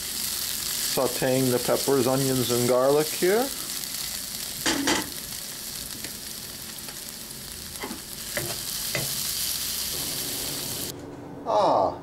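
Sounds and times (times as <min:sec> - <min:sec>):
vegetables sizzling in a pan: 0:00.0 - 0:10.9.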